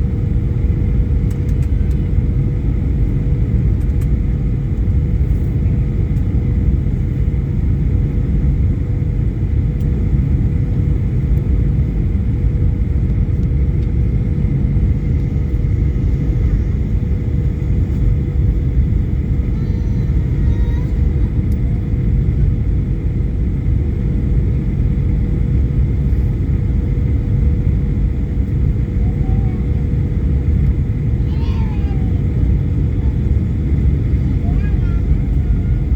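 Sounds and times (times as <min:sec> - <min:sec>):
constant hum: 0:00.0 - 0:35.9
vehicle rumble in motion: 0:00.0 - 0:35.9.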